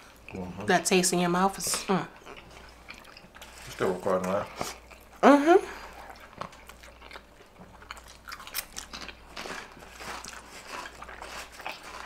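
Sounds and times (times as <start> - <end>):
crunching and chewing food: 0.0 - 12.0.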